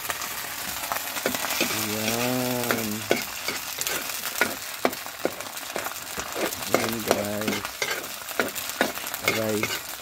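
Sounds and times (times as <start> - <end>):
fish sizzling in oil: 0.0 - 10.0
stirring scrapes in a pan: 1.2 - 10.0.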